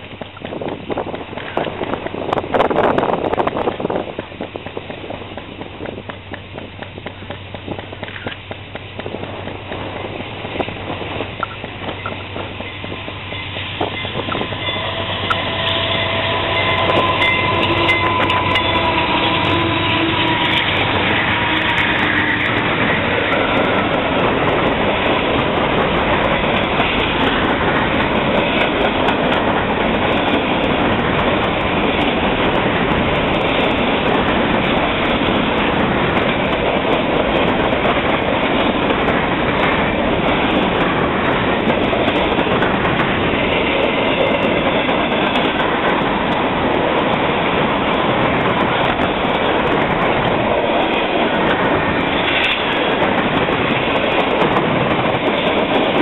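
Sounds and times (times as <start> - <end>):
diesel locomotives passing: 0.0 - 56.0
freight cars rumbling on rails: 0.0 - 56.0.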